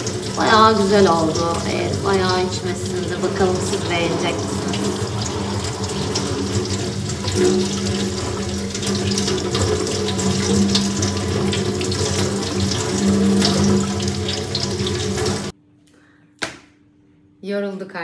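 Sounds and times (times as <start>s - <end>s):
tap water splashing into sink: 0.0s - 15.5s.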